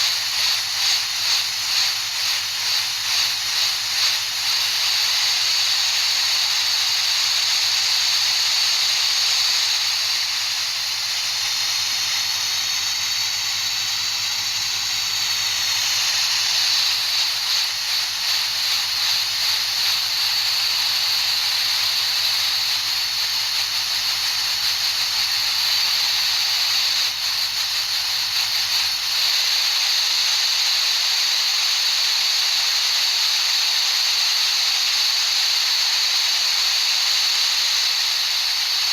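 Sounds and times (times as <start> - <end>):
high-pitched hiss: 0.0 - 38.9.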